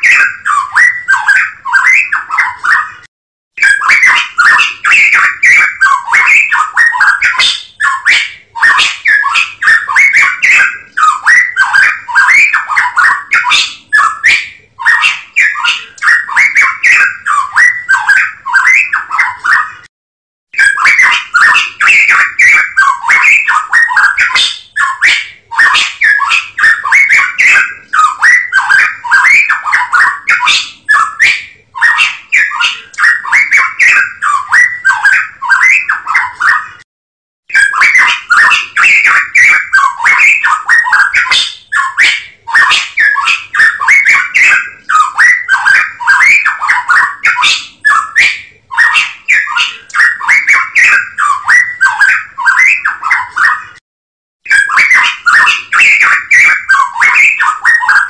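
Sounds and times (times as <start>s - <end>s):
songbird singing: 0.0s - 19.8s, 20.6s - 36.6s, 37.5s - 53.7s, 54.5s - 58.0s.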